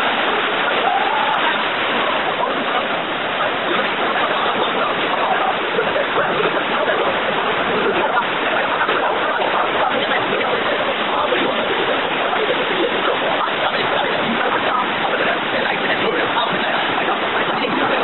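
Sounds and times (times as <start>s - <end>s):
faint voices: 0.0s - 18.0s
rushing water: 0.0s - 18.0s.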